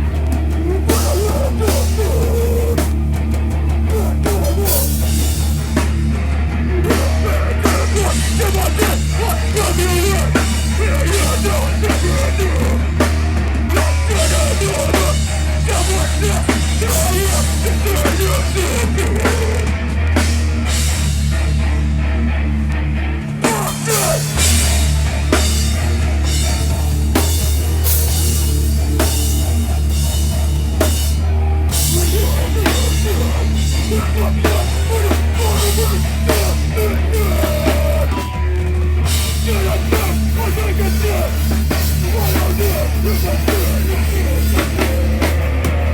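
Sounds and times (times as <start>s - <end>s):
pounding drums: 0.0s - 21.8s, 23.3s - 45.9s
distorted guitars: 0.0s - 45.9s
heavy bass: 0.0s - 45.9s.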